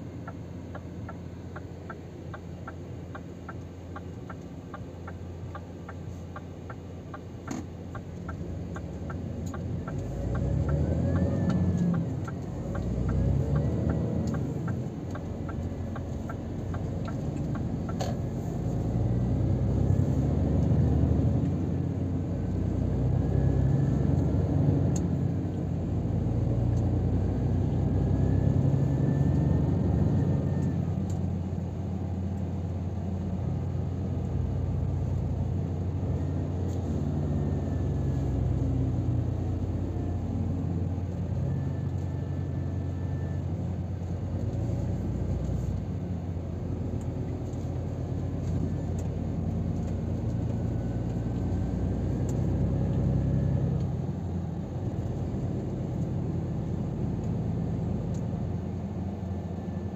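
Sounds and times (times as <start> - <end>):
turn signal ticking: 0.0 - 58.4
truck diesel engine accelerating: 0.0 - 59.9.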